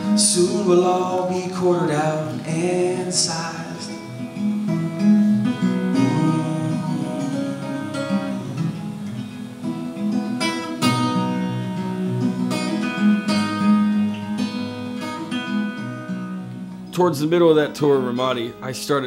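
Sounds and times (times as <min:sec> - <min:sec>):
acoustic guitar picked chords: 0:00.0 - 0:19.0.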